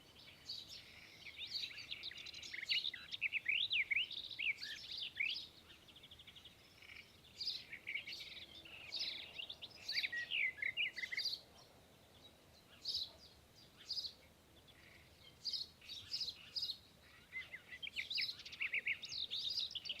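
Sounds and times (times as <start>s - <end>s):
birds chirping and calling: 0.1s - 20.0s.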